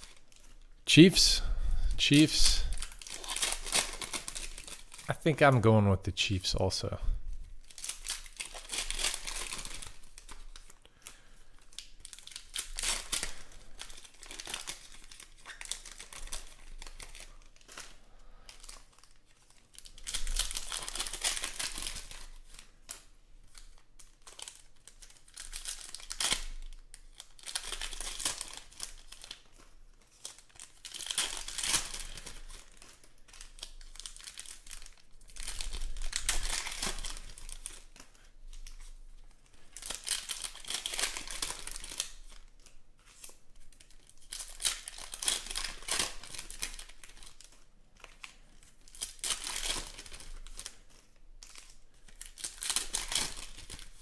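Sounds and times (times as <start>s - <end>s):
foil wrappers tearing and crinkling: 0.0s - 1.4s, 2.1s - 5.1s, 7.4s - 54.0s.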